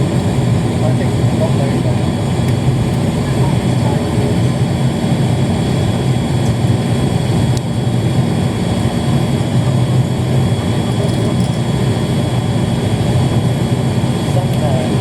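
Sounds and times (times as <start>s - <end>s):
propeller engines droning: 0.0s - 15.0s.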